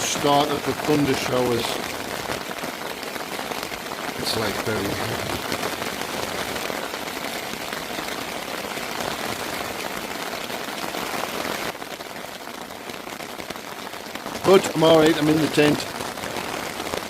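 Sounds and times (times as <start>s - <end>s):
heavy rain on tent fabric: 0.0s - 17.0s.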